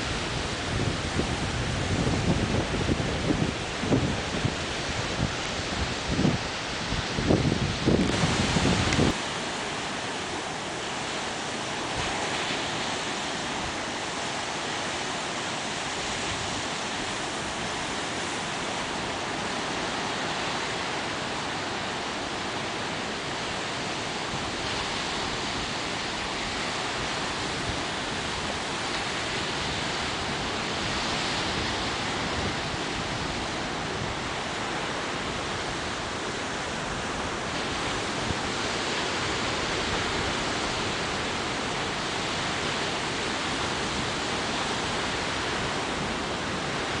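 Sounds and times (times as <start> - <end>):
ocean waves breaking: 0.0 - 47.0.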